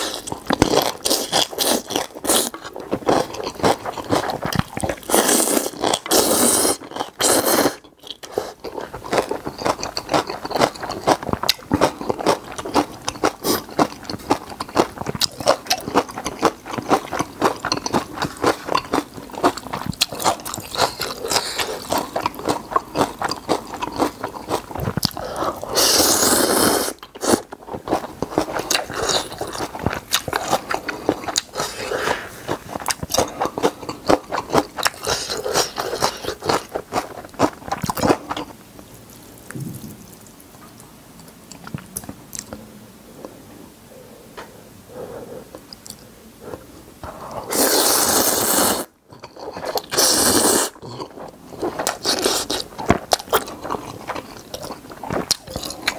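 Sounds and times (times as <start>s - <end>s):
crunching and chewing: 0.0s - 42.6s, 45.5s - 55.9s.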